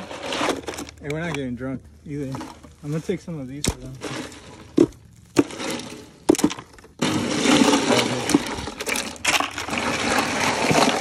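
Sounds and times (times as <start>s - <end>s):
ice and cans rattling in cooler: 0.0s - 11.0s.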